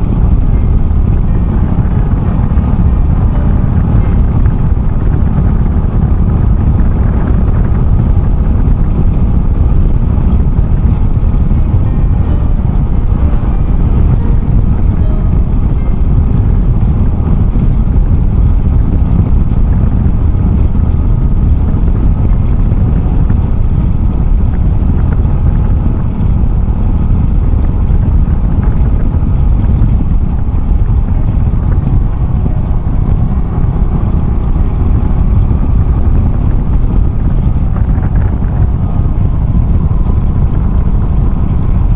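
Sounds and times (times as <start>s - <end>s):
motorcycle engine running: 0.0s - 41.9s
wind rumble on microphone: 0.0s - 41.9s.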